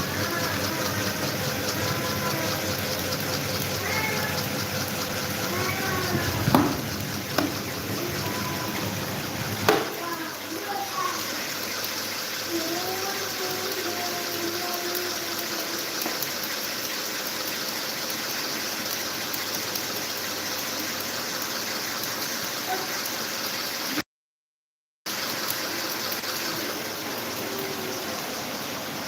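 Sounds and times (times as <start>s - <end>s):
electric fan running: 0.0s - 23.4s, 25.1s - 29.0s.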